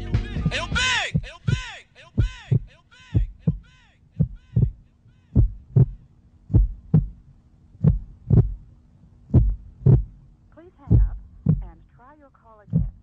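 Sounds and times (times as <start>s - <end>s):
heartbeat thumps: 0.0s - 8.7s, 9.3s - 11.8s, 12.7s - 13.0s
faint steady hum: 0.0s - 13.0s.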